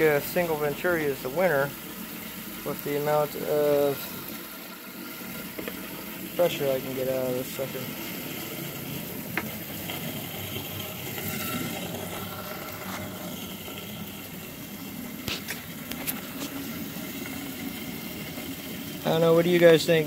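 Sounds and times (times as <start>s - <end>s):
air bubbles fizzing in water: 0.0s - 19.8s.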